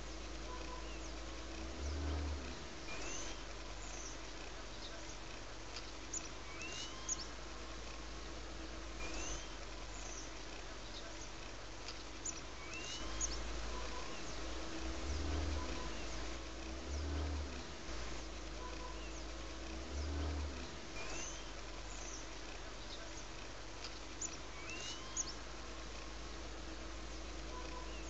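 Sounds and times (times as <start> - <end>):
low hum: 0.0 - 28.0
low rumble: 0.0 - 28.0.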